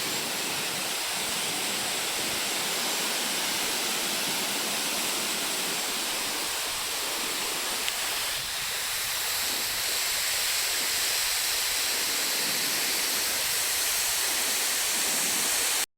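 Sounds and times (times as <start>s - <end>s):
waterfall rushing: 0.0s - 15.8s.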